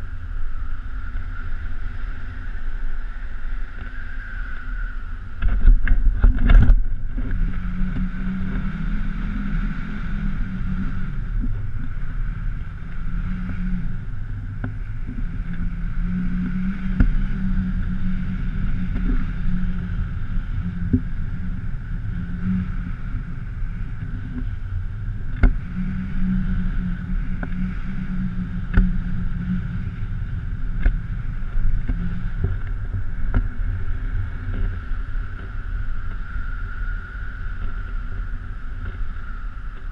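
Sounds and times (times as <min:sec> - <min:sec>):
muffled wind rumble: 0:00.0 - 0:39.9
steady higher tone: 0:00.0 - 0:39.9.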